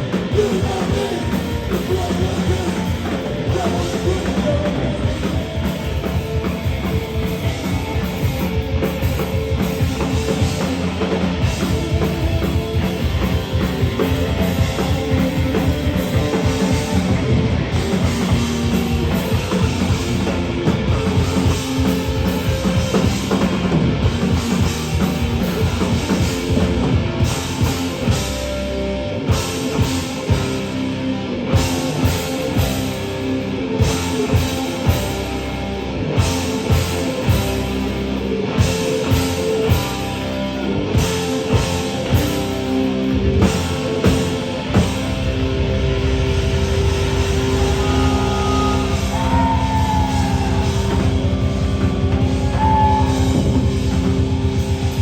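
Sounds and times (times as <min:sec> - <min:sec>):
heavy rock band playing: 0:00.0 - 0:55.0
pounding drum kit: 0:00.0 - 0:55.0.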